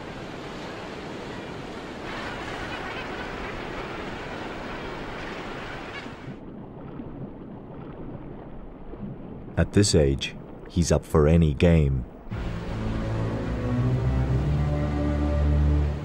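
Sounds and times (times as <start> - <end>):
ocean surf breaking: 0.0 - 6.4, 9.6 - 16.0.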